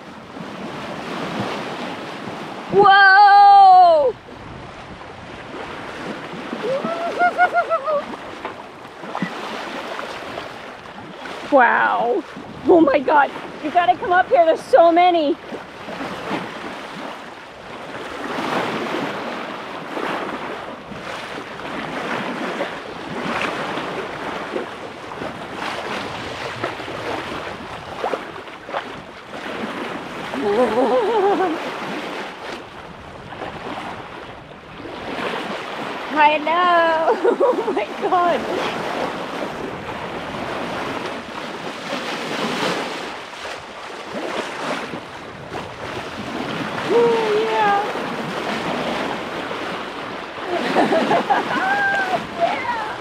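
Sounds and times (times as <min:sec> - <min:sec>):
water splashing along boat hull: 0:00.0 - 0:53.0
wind buffeting microphone: 0:00.0 - 0:53.0.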